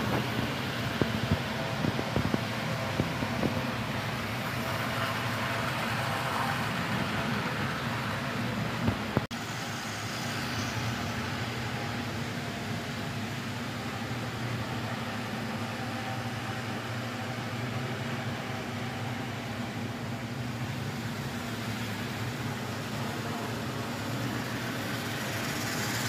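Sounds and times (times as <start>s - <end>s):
model train motor hum: 0.9s - 8.2s, 9.4s - 26.0s.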